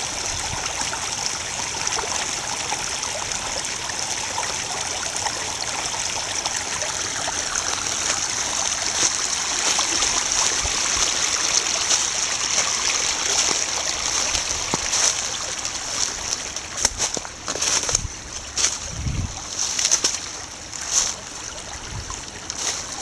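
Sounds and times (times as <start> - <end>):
stream babbling: 0.0 - 23.0.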